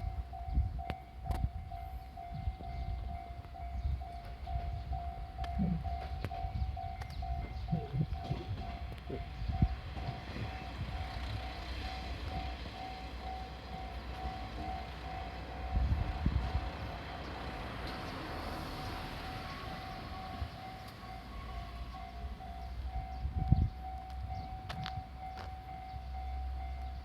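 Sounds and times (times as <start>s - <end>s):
diesel railcar rumbling past: 0.0s - 27.0s
level-crossing warning bell: 0.0s - 27.0s.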